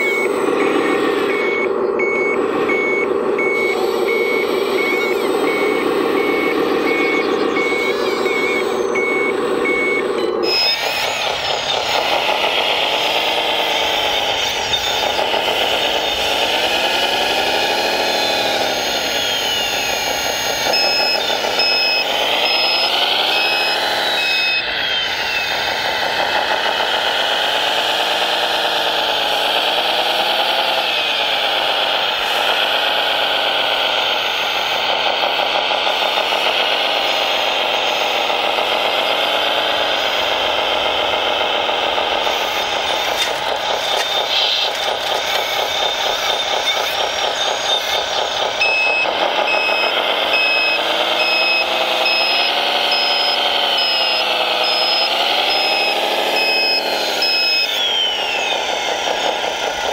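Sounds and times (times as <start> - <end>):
model machine engines revving: 0.0 - 59.9
reversing beeper: 0.0 - 59.9.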